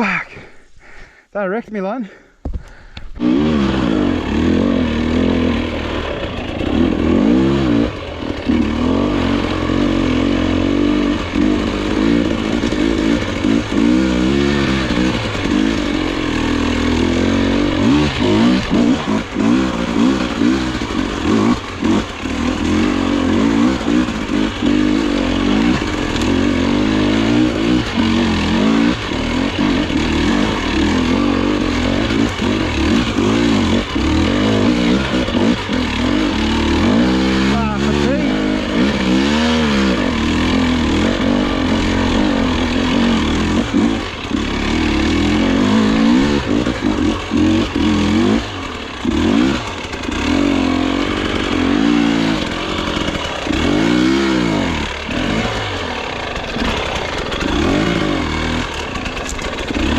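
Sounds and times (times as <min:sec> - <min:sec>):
dirt bike engine revving: 0:02.7 - 0:59.9.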